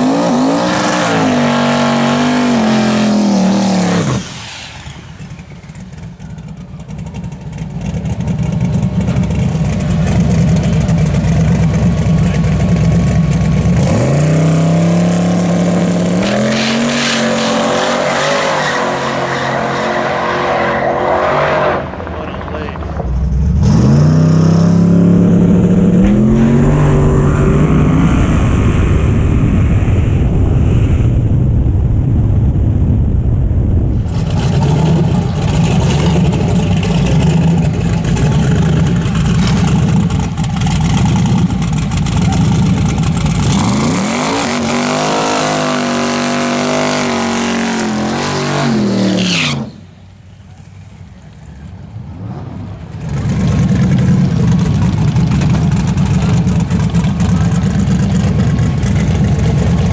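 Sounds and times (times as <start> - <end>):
race car engines at full throttle: 0.0 - 59.9.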